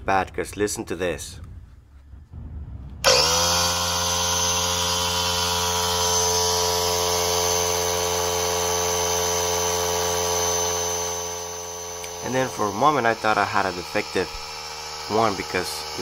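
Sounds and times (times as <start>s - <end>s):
air compressor running: 3.0s - 16.0s.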